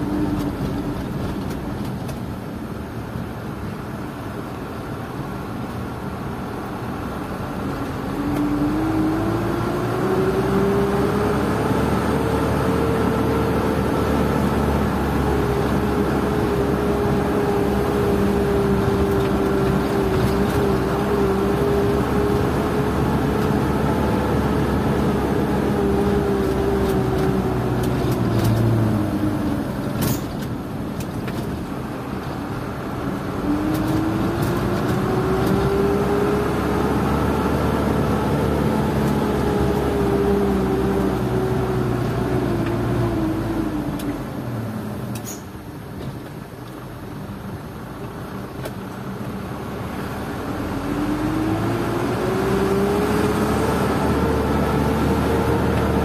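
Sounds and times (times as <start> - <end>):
truck diesel engine drone: 0.0 - 56.0.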